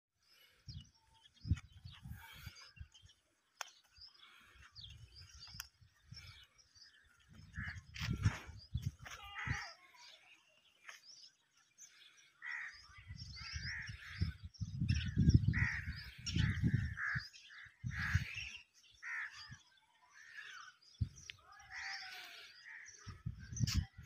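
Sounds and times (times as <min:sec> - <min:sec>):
birds calling: 0:00.2 - 0:24.0.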